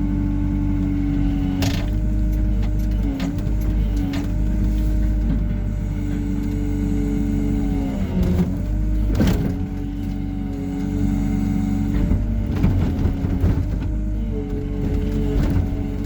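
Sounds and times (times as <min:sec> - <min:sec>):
excavator engine and hydraulics humming: 0:00.0 - 0:16.0.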